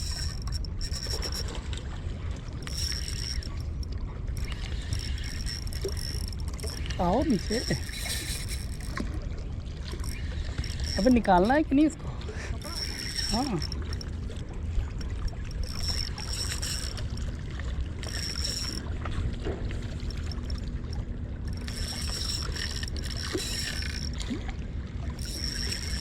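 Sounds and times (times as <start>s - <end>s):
fishing reel whirring: 0.0s - 26.0s
wind and water rumble: 0.0s - 26.0s.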